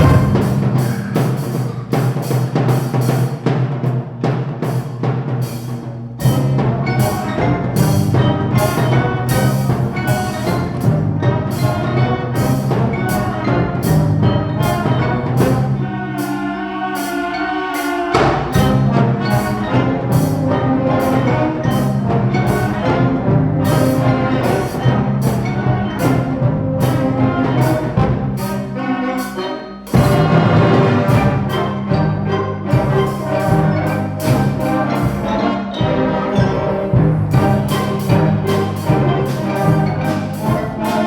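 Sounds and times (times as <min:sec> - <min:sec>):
school concert band playing: 0:00.0 - 0:41.0.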